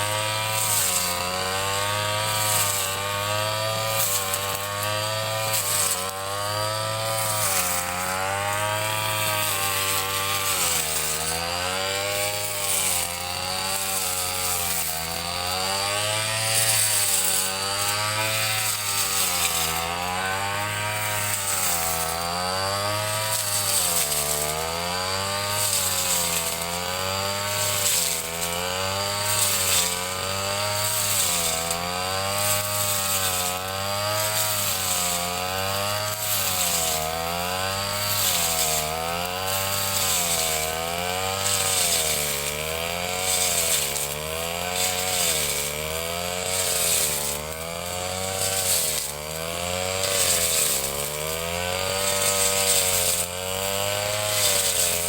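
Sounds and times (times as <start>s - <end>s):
brush cutter engine cutting grass: 0.0s - 55.0s.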